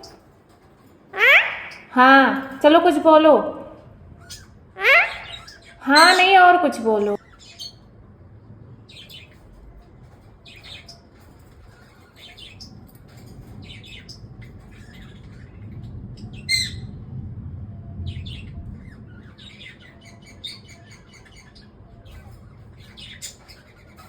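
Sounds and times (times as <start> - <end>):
lovebirds chirping and squawking: 0.0 - 8.1, 8.8 - 17.2, 18.0 - 24.0.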